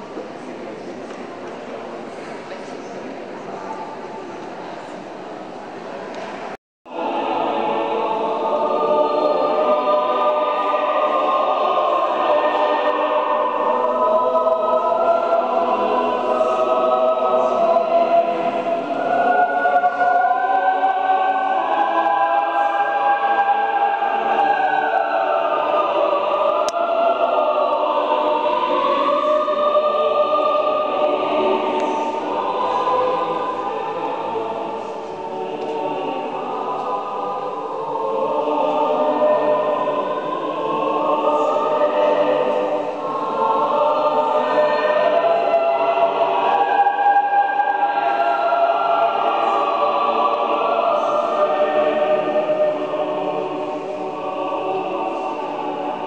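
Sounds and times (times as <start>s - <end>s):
choir singing sustained notes: 1.8s - 56.0s.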